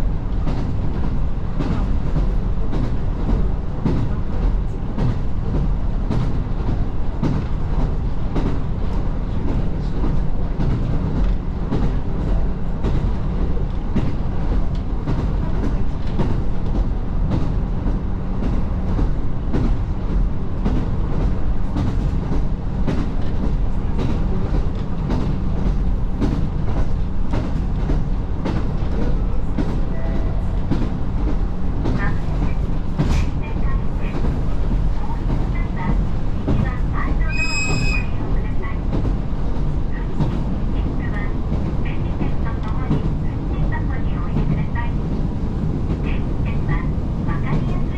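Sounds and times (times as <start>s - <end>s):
railcar low rumble: 0.0s - 47.9s.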